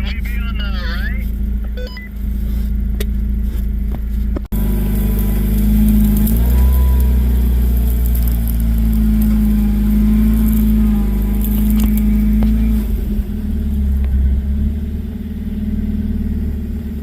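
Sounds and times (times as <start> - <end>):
off-road vehicle engine driving: 0.0 - 17.0.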